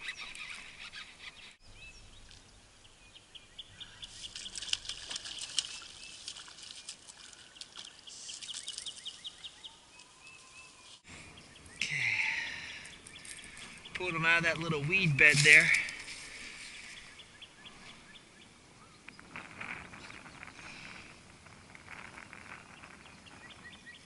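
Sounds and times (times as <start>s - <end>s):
bird chirping: 0.0s - 20.5s, 21.9s - 24.0s.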